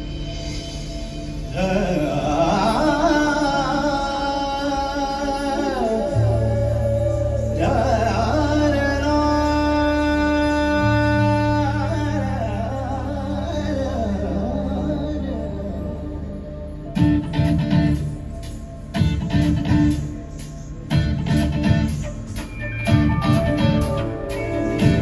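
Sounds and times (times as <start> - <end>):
low steady drone tone: 0.0 - 25.0.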